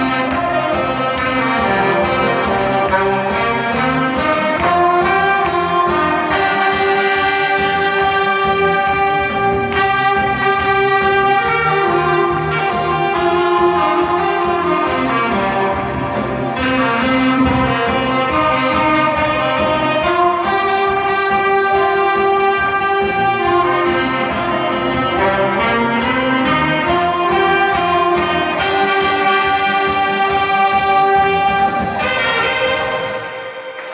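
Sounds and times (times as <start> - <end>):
saxophone ensemble playing: 0.0 - 33.9.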